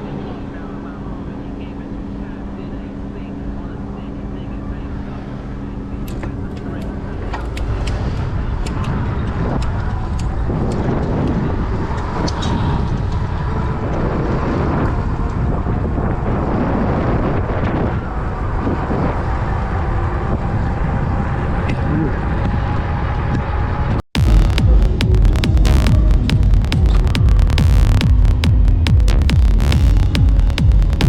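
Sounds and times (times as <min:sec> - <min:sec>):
vehicle road noise rumble: 0:00.0 - 0:31.0.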